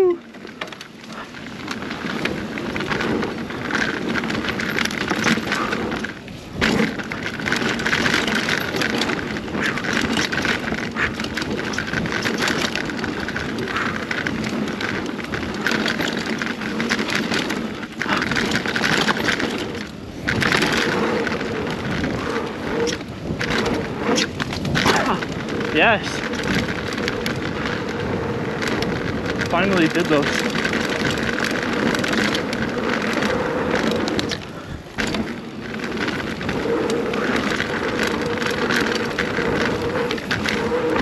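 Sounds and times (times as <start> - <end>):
bike rattling and clattering: 0.0 - 41.0
bike tyre noise: 0.0 - 41.0
wind rushing on microphone: 1.1 - 41.0.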